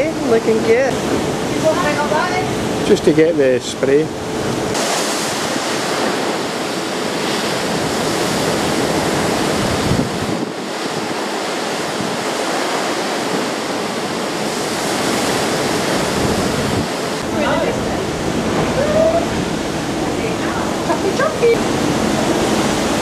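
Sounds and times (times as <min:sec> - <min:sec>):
sea water rushing: 0:00.0 - 0:23.0
wind on microphone: 0:04.1 - 0:23.0.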